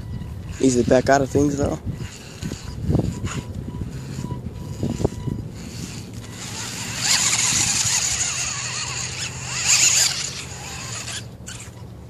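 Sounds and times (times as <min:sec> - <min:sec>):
toy truck motor and gears whining: 0:00.0 - 0:12.0.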